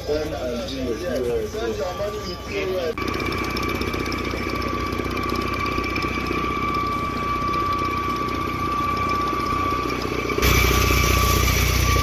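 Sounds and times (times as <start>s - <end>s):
constant high whine: 0.0s - 12.0s
engine idling: 0.0s - 12.0s.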